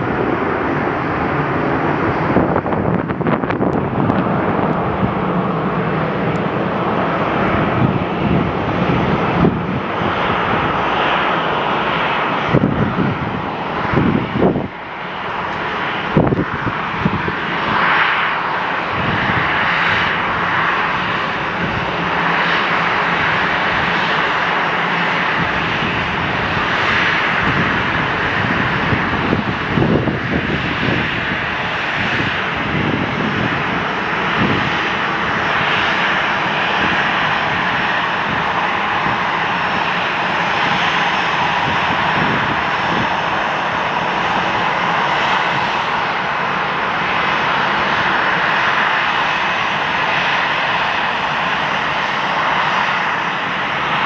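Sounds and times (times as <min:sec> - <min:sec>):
airliner engines rushing: 0:00.0 - 0:54.0.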